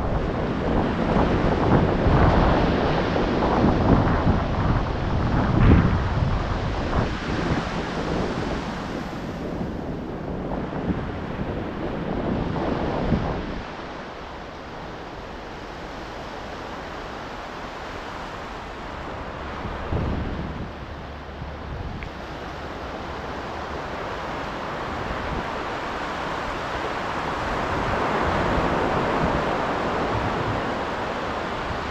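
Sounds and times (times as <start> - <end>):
ocean waves breaking: 0.0 - 31.9
wind buffeting microphone: 0.0 - 31.9.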